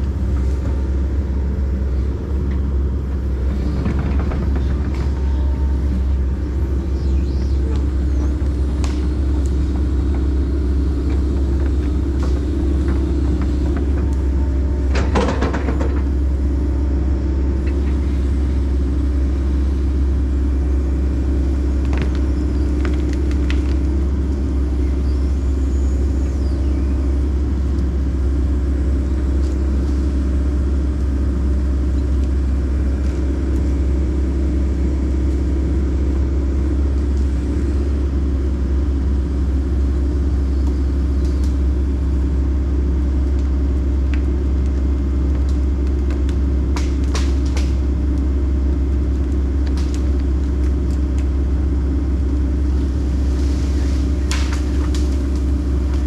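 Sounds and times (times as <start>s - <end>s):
excavator diesel engine rumbling: 0.0s - 56.0s.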